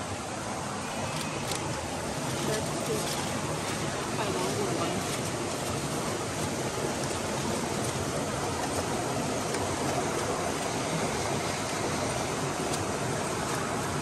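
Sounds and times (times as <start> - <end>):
waterfall rushing: 0.0 - 14.0
foil crinkling: 1.0 - 14.0.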